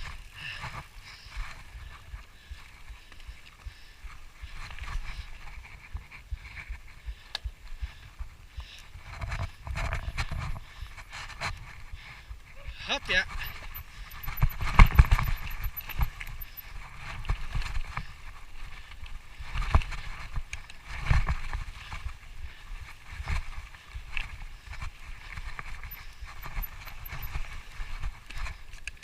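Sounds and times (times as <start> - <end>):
bicycle rattling over rough trail: 0.0 - 29.0.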